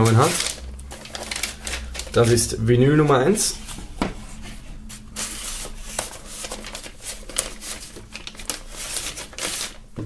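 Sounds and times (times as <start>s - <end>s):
paper rustling and scraping: 0.0s - 2.6s, 3.5s - 9.9s.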